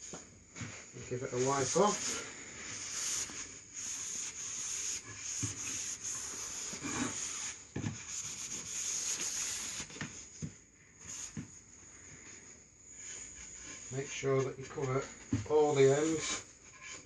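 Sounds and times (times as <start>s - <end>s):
cloth rag rubbing wood: 0.0s - 10.2s, 11.0s - 11.5s, 13.0s - 17.0s.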